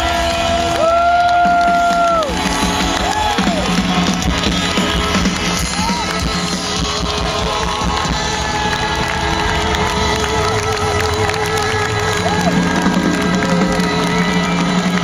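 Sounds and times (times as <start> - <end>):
crowd noise: 0.0 - 15.0
live rock band playing: 0.0 - 15.0.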